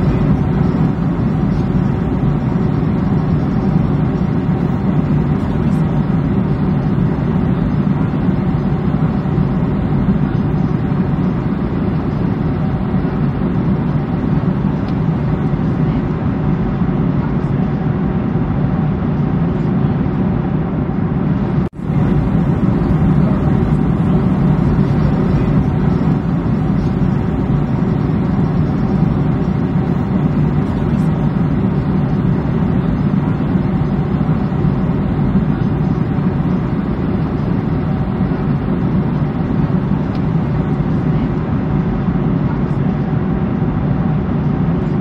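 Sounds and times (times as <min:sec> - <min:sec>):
airliner cockpit drone: 0:00.0 - 0:45.0.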